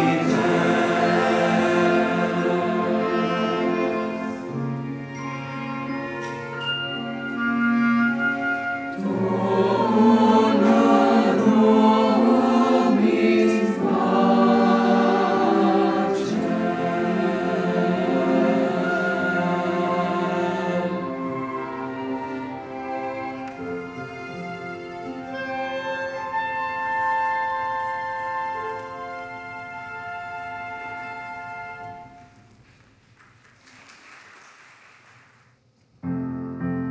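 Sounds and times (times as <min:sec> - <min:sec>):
choir singing with orchestra: 0:00.0 - 0:32.2.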